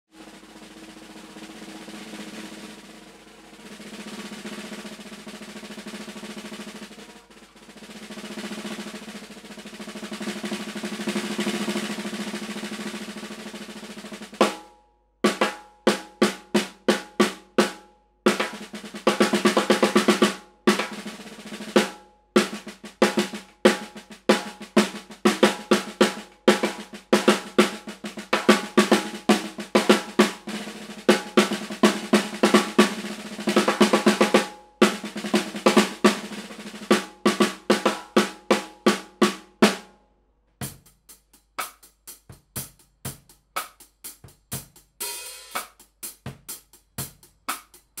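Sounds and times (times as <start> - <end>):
snare drum played with sticks: 0.1 - 40.0, 40.6 - 48.0.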